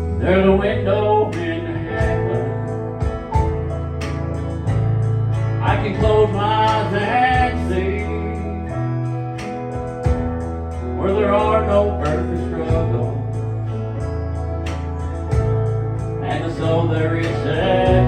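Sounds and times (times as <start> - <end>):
acoustic guitar: 0.0 - 18.0
bass: 0.0 - 18.0.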